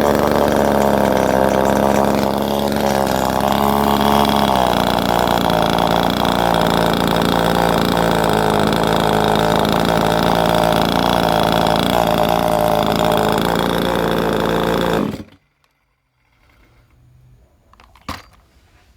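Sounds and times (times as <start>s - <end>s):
chainsaw engine running: 0.0s - 15.5s.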